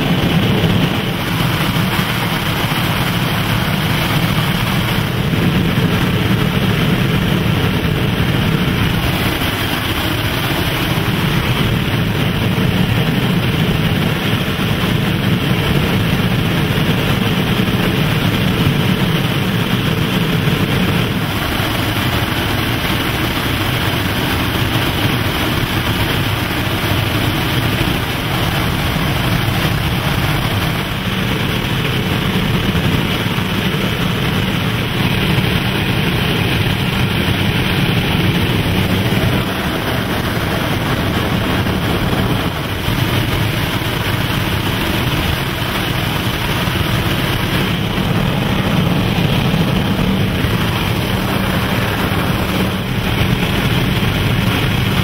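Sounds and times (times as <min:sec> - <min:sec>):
rushing airflow: 0:00.0 - 0:55.0
turboprop engines droning: 0:00.0 - 0:55.0.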